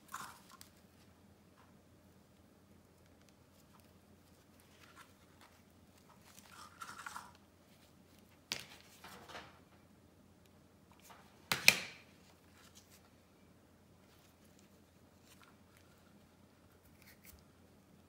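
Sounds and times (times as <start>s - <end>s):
rustling and crinkling: 0.0s - 9.8s, 10.9s - 18.0s.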